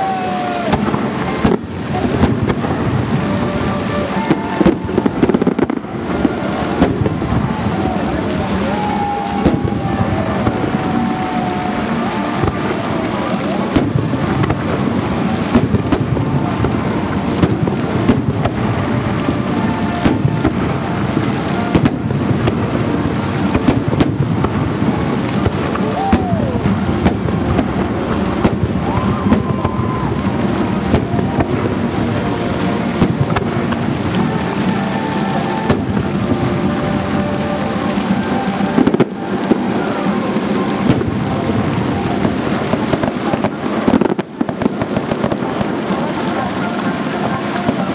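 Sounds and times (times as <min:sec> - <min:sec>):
sharp firework bangs: 0:00.0 - 0:46.5
falling firework whistle: 0:00.0 - 0:47.9
fireworks bursting: 0:00.0 - 0:47.9.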